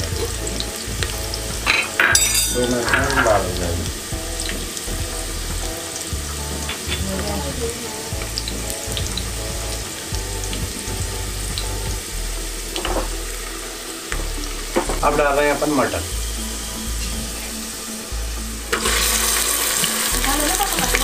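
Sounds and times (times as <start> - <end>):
oil sizzling with small pops: 0.0 - 21.0.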